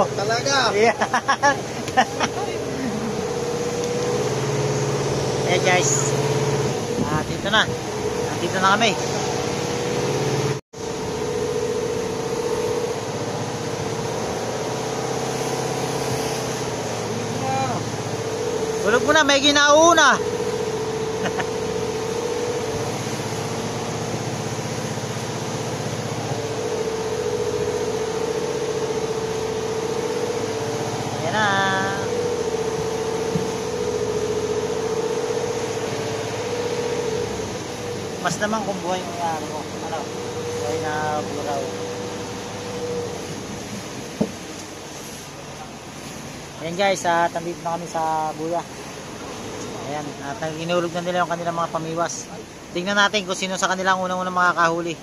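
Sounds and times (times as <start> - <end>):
boat engine humming: 0.0 - 55.0
wake rushing: 0.0 - 55.0
wind: 0.0 - 55.0.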